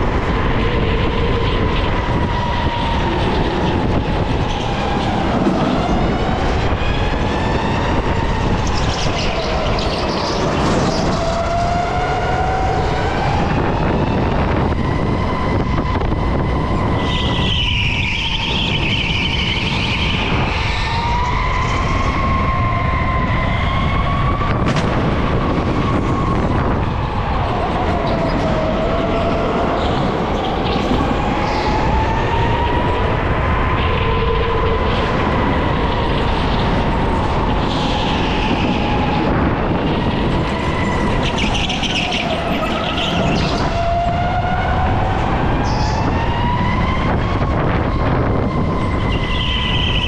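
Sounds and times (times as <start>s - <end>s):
wheels rumbling on track: 0.0s - 50.0s.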